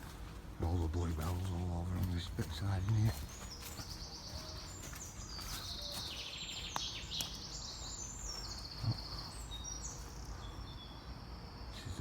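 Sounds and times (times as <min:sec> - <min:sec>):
songbirds singing trills: 0:00.0 - 0:12.0.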